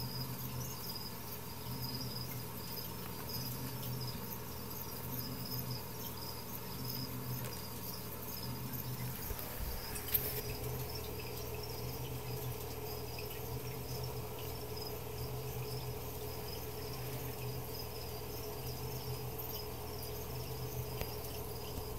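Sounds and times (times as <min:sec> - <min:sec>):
crickets chirping: 0:00.0 - 0:21.9
low electrical hum: 0:00.0 - 0:21.9.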